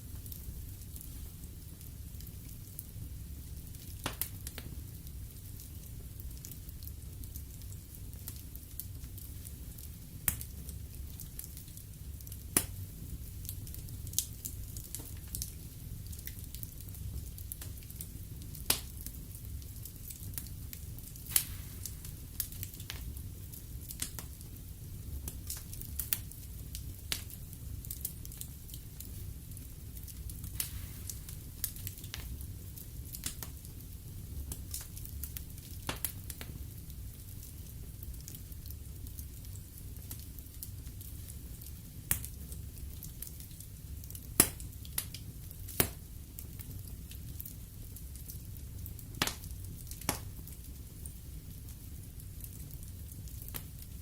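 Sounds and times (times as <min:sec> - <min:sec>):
fire rumbling: 0:00.0 - 0:54.0
logs crackling and popping: 0:00.2 - 0:54.0.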